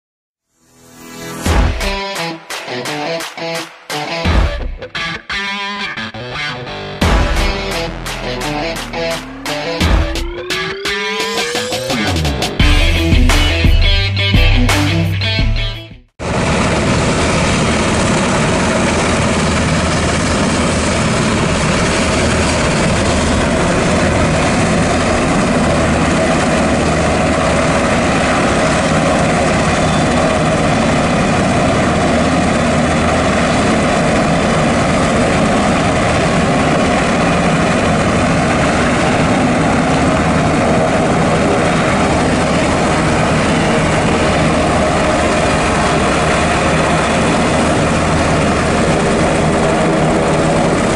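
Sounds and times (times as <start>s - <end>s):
helicopter turbine and rotor noise: 0.7s - 14.3s, 16.2s - 50.9s.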